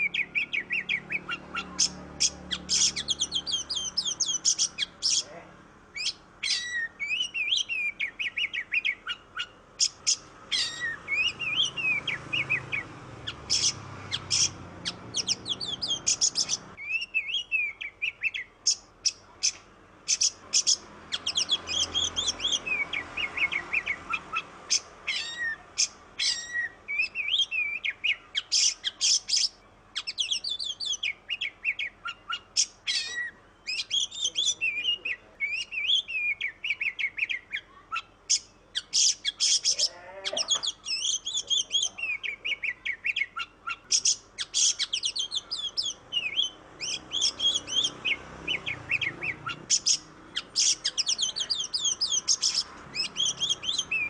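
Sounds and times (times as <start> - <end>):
bird singing whistled phrases: 0.0 - 5.3, 6.0 - 54.0.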